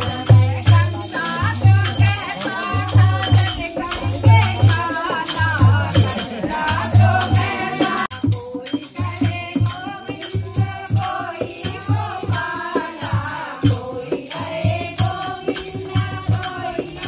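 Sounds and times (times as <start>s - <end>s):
people singing: 0.0s - 17.0s
shaker percussion: 0.0s - 17.0s
steady drumbeat: 0.0s - 17.0s.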